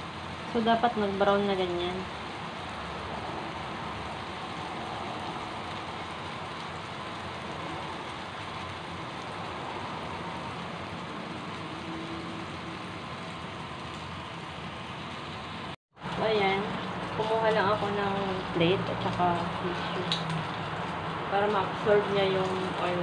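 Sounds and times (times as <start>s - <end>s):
bananas sizzling in oil: 0.0s - 23.0s.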